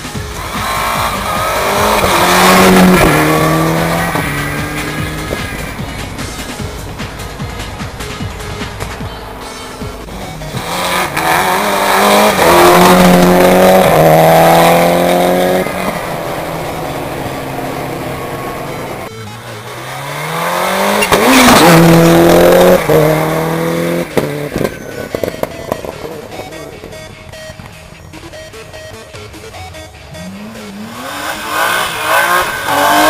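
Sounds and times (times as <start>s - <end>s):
rally cars passing at speed: 0.0s - 9.0s, 10.4s - 27.0s, 30.3s - 33.0s.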